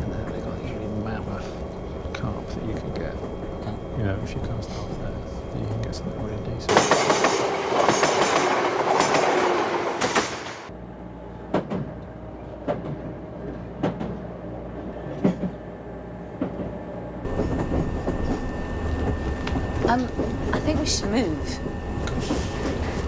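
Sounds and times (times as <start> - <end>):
low hum: 0.0 - 6.7, 10.5 - 23.0
train rumble inside carriage: 0.0 - 23.0.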